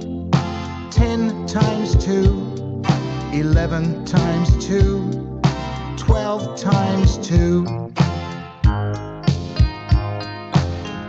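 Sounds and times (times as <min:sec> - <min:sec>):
instrumental backing music with steady beat: 0:00.0 - 0:11.0.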